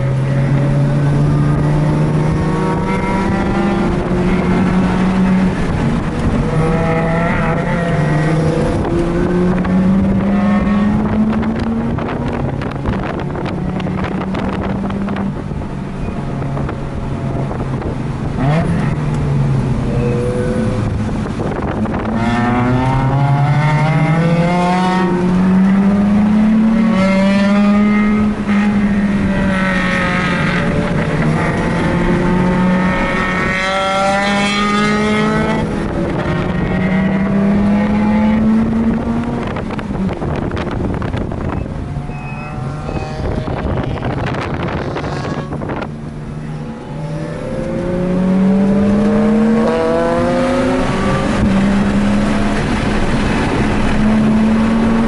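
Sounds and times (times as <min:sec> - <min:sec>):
rotary engine revving: 0:00.0 - 0:15.3, 0:18.2 - 0:55.0
wind buffeting microphone: 0:00.0 - 0:55.0.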